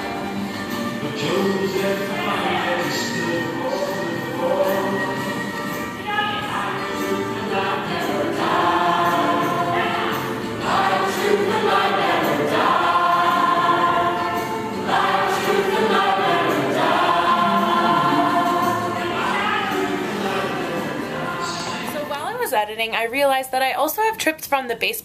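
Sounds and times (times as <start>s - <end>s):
choir singing: 1.0s - 22.2s.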